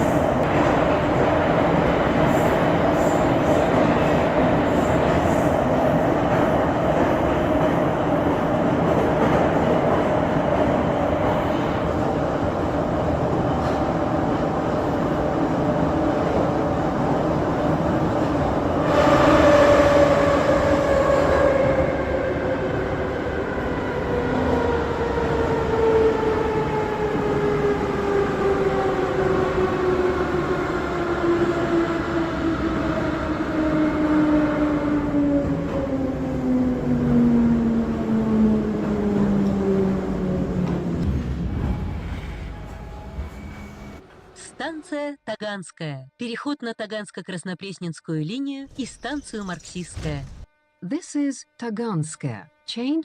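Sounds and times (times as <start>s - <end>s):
subway train running in tunnel: 0.0s - 45.0s.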